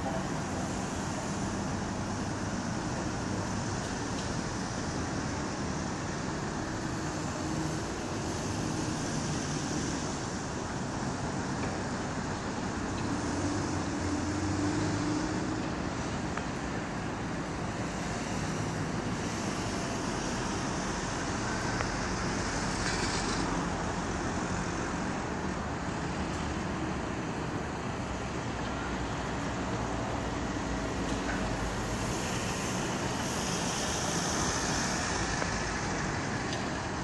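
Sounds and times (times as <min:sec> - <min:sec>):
construction machinery: 0:00.0 - 0:37.0
road traffic: 0:00.0 - 0:37.0.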